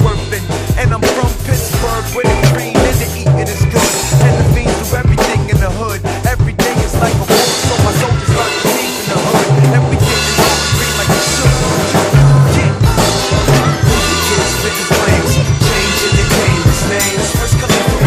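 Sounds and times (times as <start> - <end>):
drum kit playing: 0.0 - 18.0
hip hop backing track: 0.0 - 18.0.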